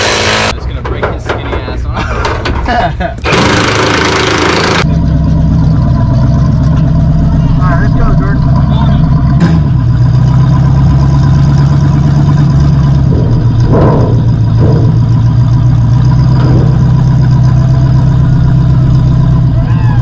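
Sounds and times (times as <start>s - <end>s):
loud car engine drone: 0.0s - 20.0s.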